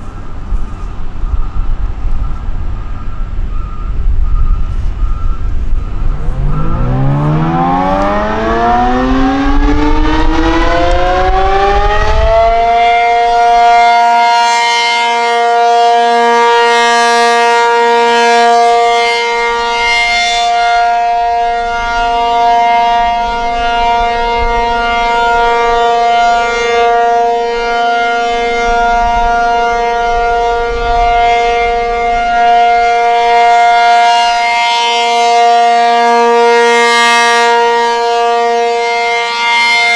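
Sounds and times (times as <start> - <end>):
tornado siren winding up: 0.0 - 39.9.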